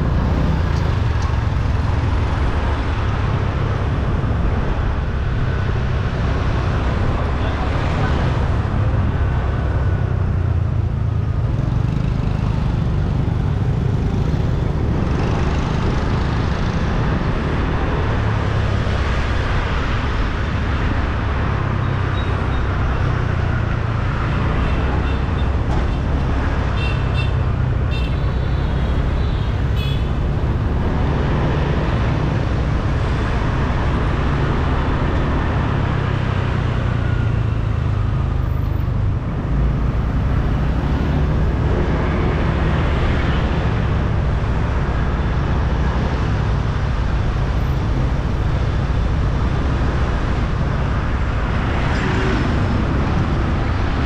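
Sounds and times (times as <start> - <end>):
motorbike engine and road noise: 0.0 - 54.0.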